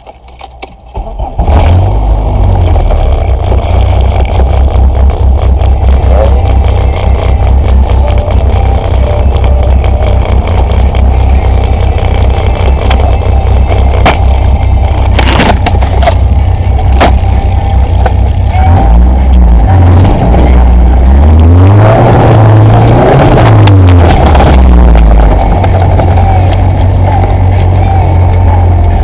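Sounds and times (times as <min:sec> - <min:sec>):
car engine with loud exhaust: 0:00.0 - 0:29.0.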